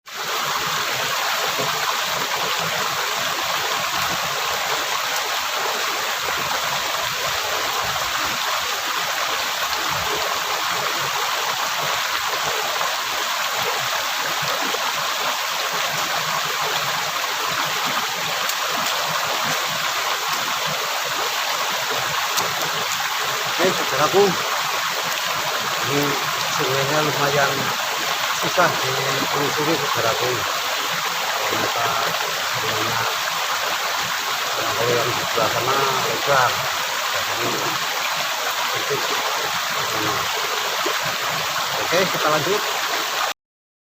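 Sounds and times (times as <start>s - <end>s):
river water flowing: 0.1s - 43.3s.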